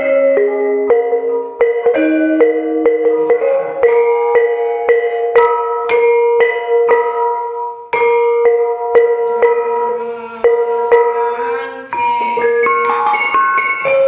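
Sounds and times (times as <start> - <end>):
kettle gongs struck with mallets: 0.0 - 14.0.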